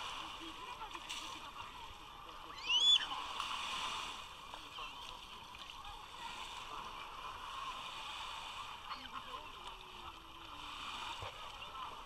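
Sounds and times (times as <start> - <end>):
distant crowd chatter: 0.0 - 12.0
small waves lapping: 0.0 - 12.0.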